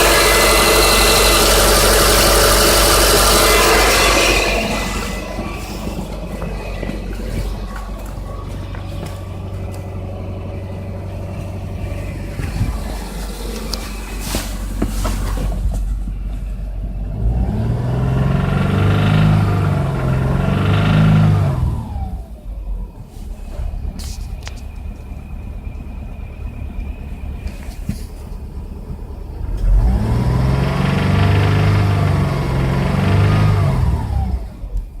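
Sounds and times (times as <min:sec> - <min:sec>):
car engine knocking: 0:00.0 - 0:23.0, 0:23.6 - 0:35.0.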